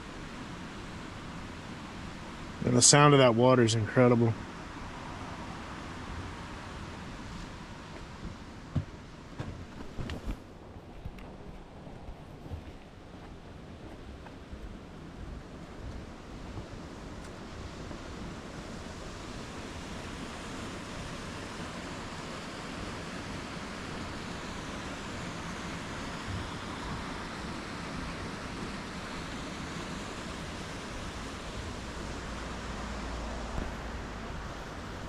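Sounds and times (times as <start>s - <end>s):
river water rushing over rapids: 0.0s - 35.0s.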